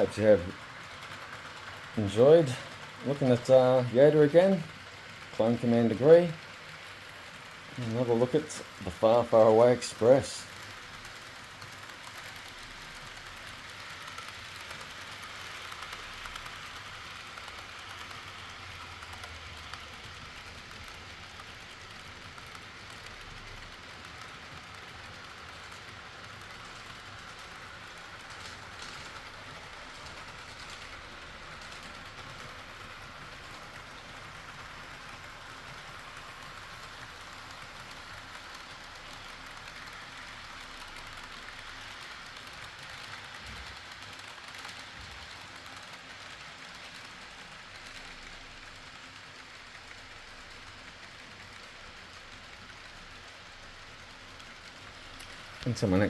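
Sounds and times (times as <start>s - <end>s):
model train whirring on rails: 0.0s - 56.0s.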